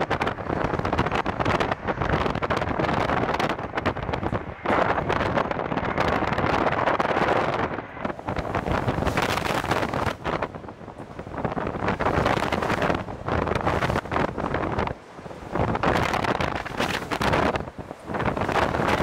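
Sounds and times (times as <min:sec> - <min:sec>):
gusty wind buffeting microphone: 0:00.0 - 0:19.0.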